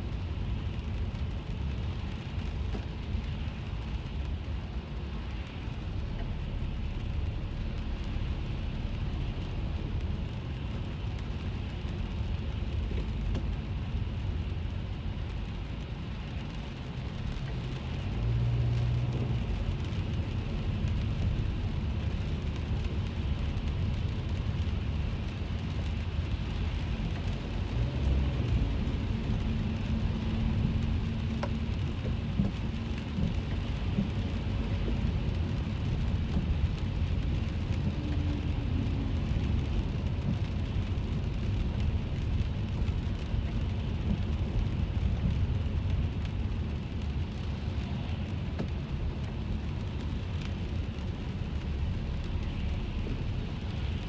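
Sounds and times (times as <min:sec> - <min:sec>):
engine and tyres on wet road: 0:00.0 - 0:54.0
rain falling on a car: 0:00.0 - 0:54.0.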